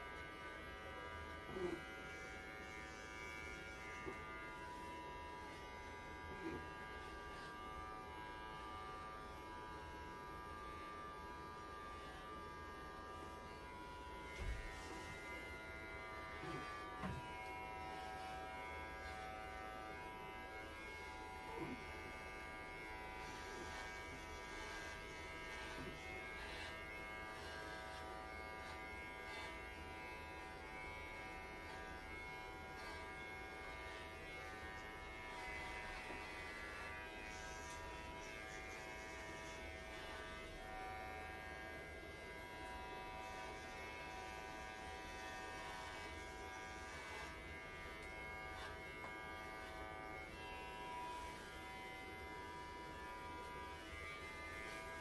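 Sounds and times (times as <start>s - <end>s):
electric clippers buzzing: 0.0s - 55.0s.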